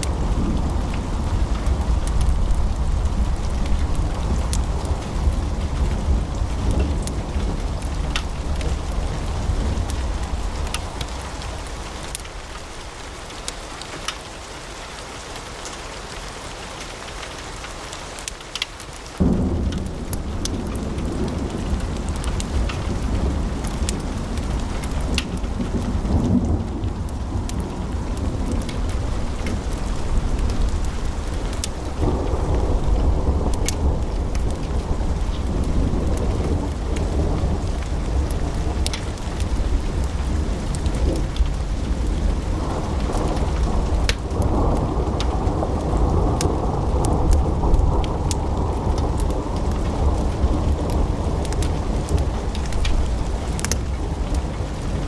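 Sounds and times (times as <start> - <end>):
low rumble of burning: 0.0 - 14.2, 18.6 - 55.0
log fire crackling and popping: 0.0 - 14.5, 17.1 - 55.0.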